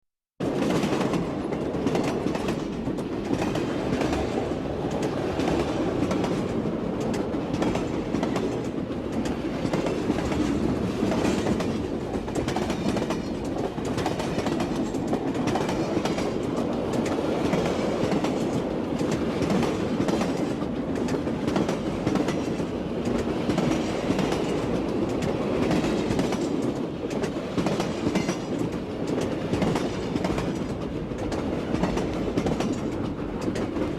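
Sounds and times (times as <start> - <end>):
train rumbling: 0.4 - 33.9
wheels clicking over rail joints: 0.4 - 33.9.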